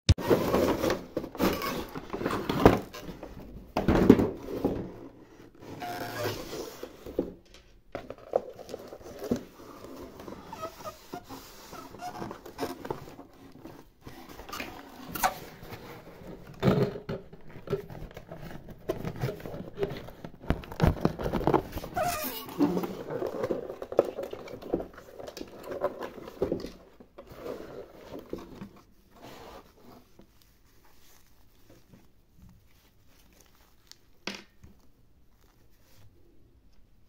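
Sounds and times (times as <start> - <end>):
hands handling cardboard toy box: 0.2 - 37.0.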